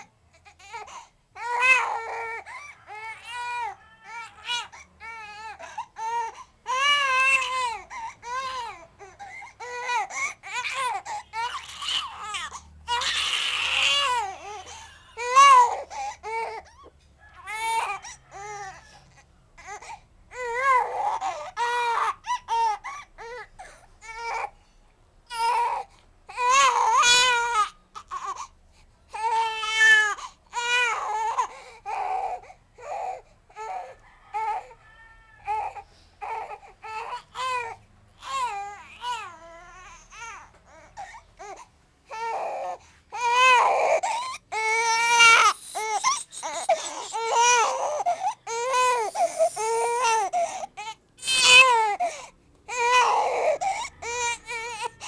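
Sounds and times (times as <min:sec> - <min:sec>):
baby crying: 0:00.0 - 0:24.5, 0:25.3 - 0:28.5, 0:29.1 - 0:55.0.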